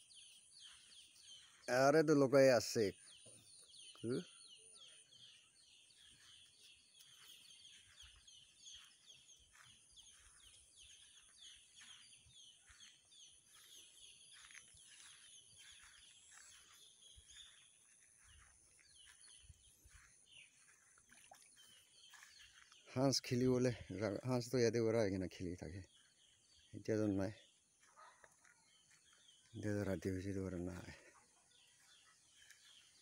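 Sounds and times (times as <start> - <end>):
birds chirping faintly: 0.0 - 33.0.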